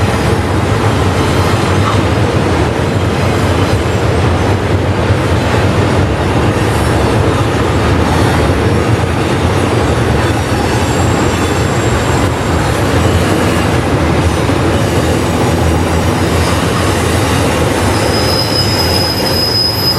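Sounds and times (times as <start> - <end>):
freight train rumbling past: 0.0 - 19.9.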